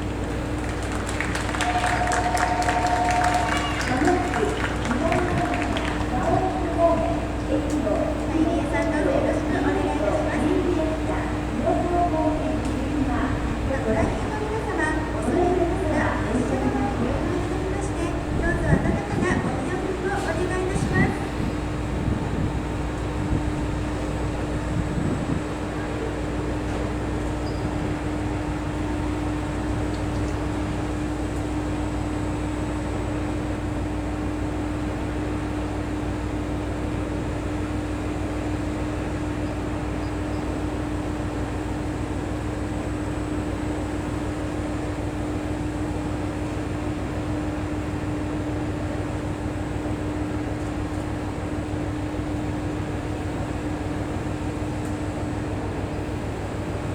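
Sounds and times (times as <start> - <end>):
diesel railcar idling: 0.0 - 56.9.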